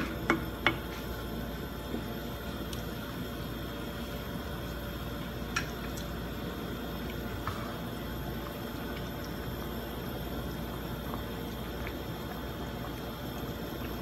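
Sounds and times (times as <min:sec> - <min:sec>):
curry bubbling: 0:00.0 - 0:14.0.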